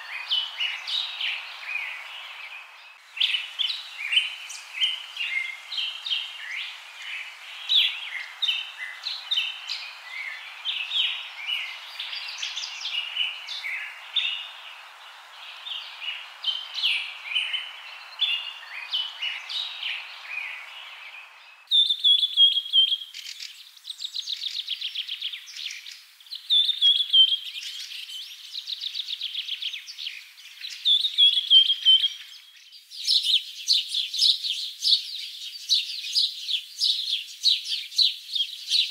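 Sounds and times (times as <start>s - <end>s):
birds chirping: 0.0s - 32.9s
faint hiss: 0.0s - 38.9s.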